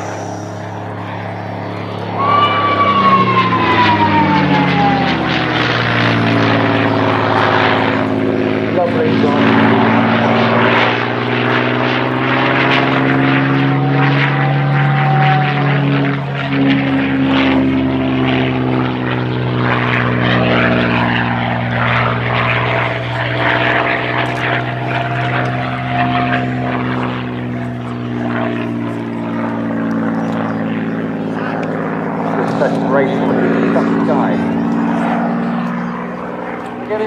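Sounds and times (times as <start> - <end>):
propeller plane engine flying past: 0.0 - 37.0.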